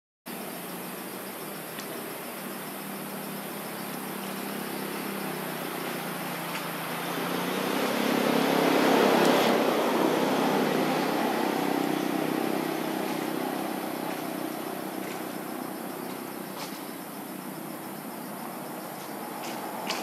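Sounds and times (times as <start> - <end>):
vehicle engine passing by: 2.9 - 20.0.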